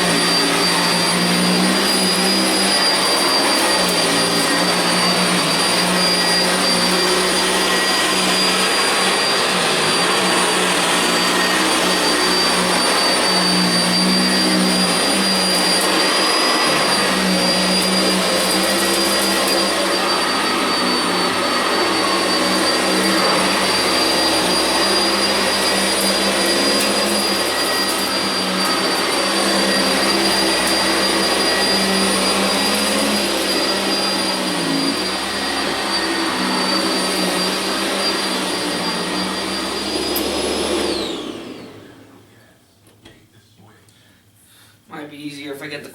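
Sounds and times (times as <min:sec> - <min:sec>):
vacuum cleaner on carpet: 0:00.0 - 0:42.5.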